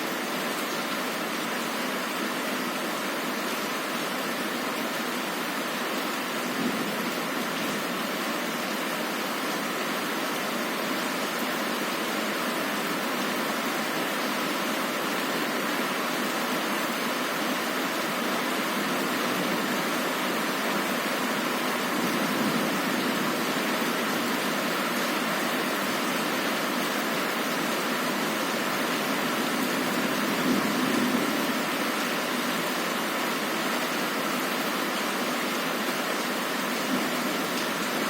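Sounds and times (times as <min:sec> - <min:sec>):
heavy rain on a window: 0:00.0 - 0:38.0.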